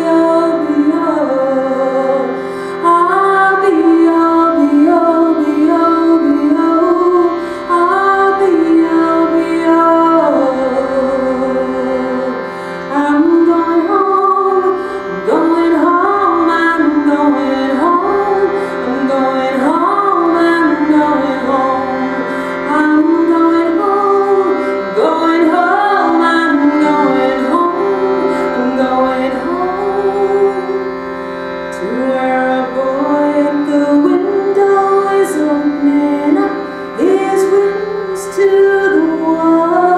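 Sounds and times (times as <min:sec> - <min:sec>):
woman singing: 0:00.0 - 0:31.0, 0:31.6 - 0:39.9
shruti box reed drone: 0:00.0 - 0:39.9.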